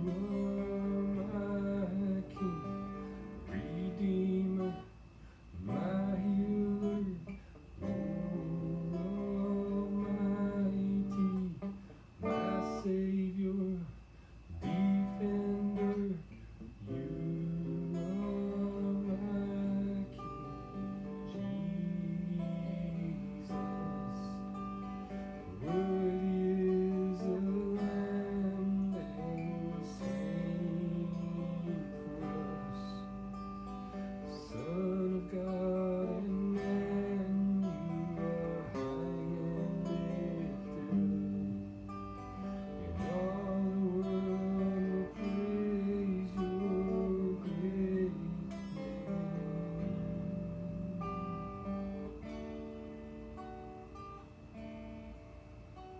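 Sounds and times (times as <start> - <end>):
person singing: 0.0 - 4.9, 5.5 - 13.9, 14.5 - 52.1
acoustic guitar strumming: 0.0 - 55.9.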